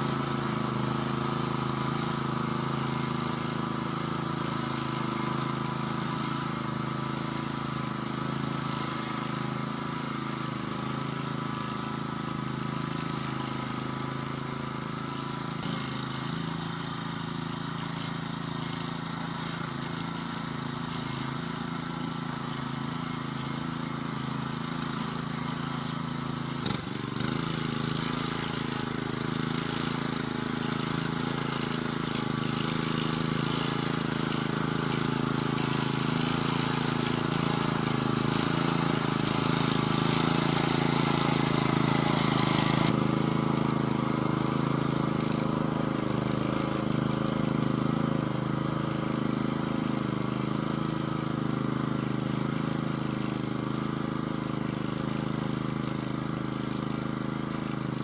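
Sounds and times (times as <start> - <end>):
walk-behind tractor engine: 0.0 - 58.0.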